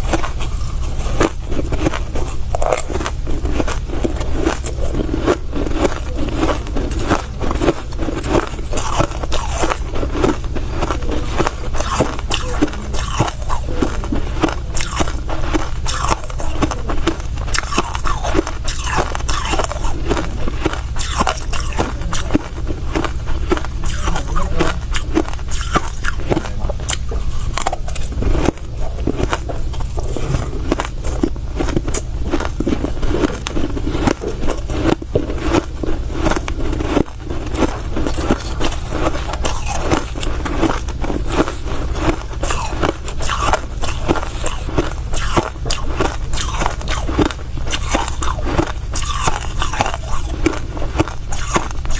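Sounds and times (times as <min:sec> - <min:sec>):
crunching ice while chewing: 0:00.0 - 0:51.9.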